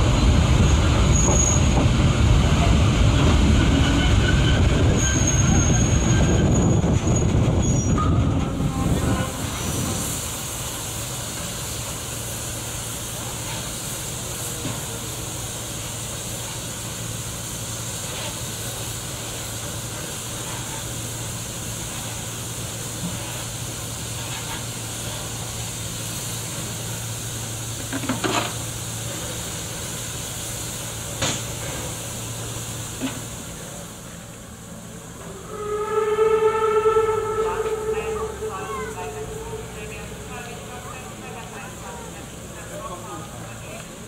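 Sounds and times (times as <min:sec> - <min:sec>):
steam hissing from locomotive: 0:08.7 - 0:44.0.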